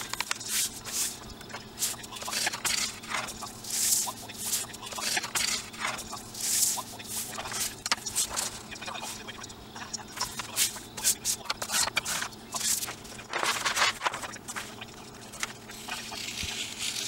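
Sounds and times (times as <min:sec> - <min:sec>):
wooden stick rubbing paper: 0:00.0 - 0:09.4, 0:10.1 - 0:17.0.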